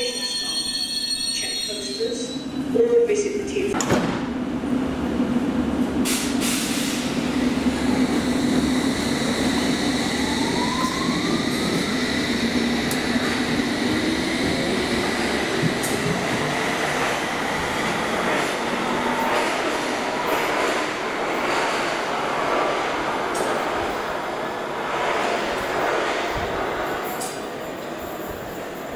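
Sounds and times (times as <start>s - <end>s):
electric train humming: 4.4s - 28.8s.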